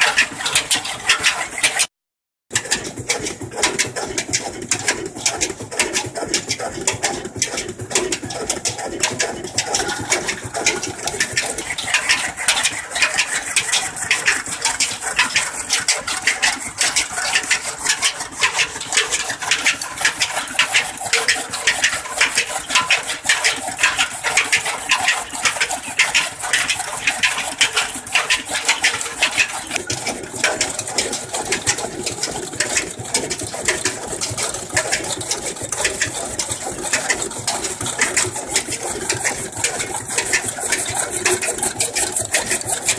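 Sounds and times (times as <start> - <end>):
old engine knocking: 0.0 - 1.9, 2.5 - 42.9.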